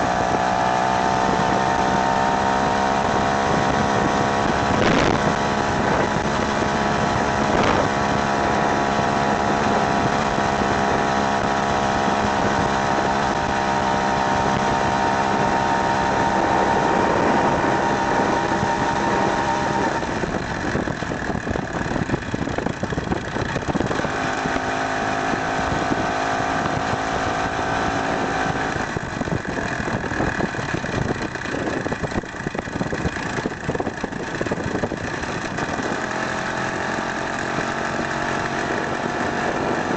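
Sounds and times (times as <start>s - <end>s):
two-stroke chainsaw engine running: 0.0s - 39.9s.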